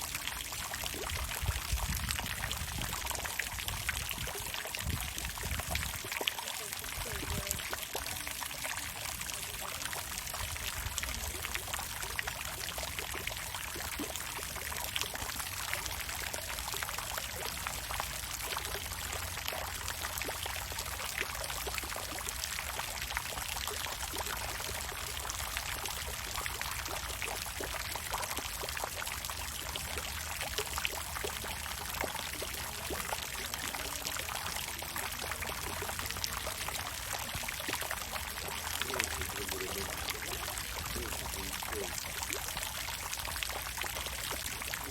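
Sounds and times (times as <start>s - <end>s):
water fountain splashing: 0.0s - 44.9s.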